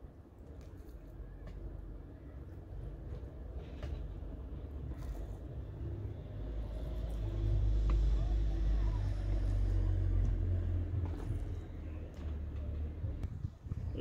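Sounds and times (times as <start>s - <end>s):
passing motor vehicle rumble: 1.2s - 14.0s.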